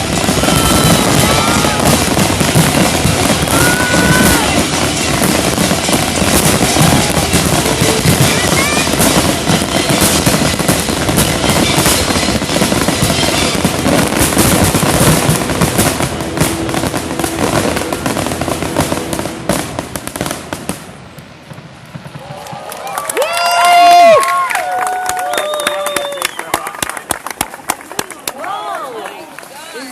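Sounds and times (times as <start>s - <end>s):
fireworks bangs and crackling: 0.0s - 28.3s.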